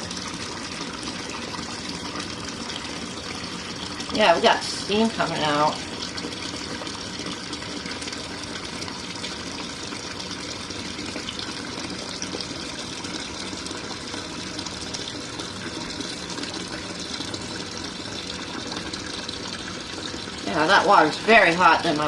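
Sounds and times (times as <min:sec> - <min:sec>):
water running from faucet: 0:00.0 - 0:22.0.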